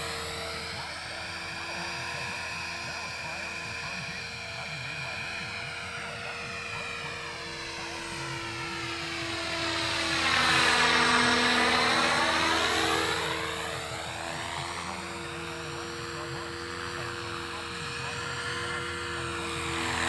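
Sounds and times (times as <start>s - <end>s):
rc helicopter motor whine: 0.0s - 20.0s.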